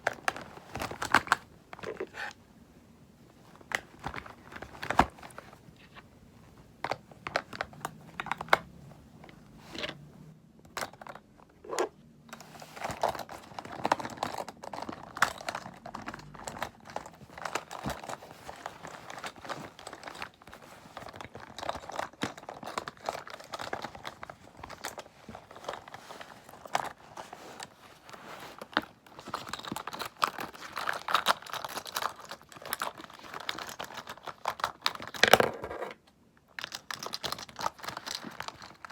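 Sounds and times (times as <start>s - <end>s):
crinkly rustling: 0.0s - 2.4s, 3.2s - 10.2s, 10.9s - 38.9s.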